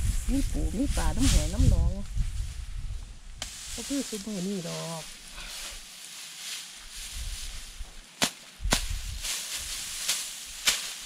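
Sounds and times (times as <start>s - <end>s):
straw rustling: 0.0s - 11.0s.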